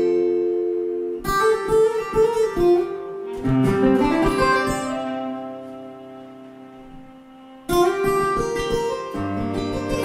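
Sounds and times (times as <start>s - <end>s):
acoustic guitar chord ringing: 0.0s - 10.0s.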